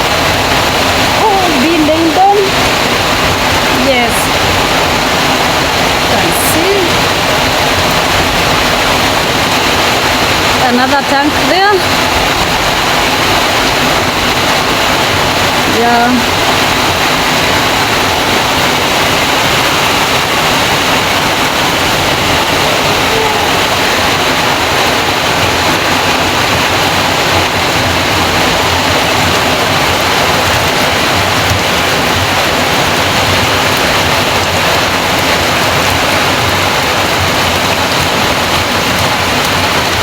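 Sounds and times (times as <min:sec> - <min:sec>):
heavy rain: 0:00.0 - 0:40.0
rainwater pouring off roof: 0:00.0 - 0:40.0.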